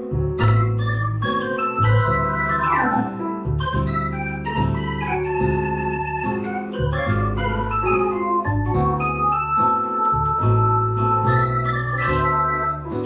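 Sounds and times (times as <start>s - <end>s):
electronic organ chords: 0.0s - 13.0s
moving bass line: 0.0s - 13.0s.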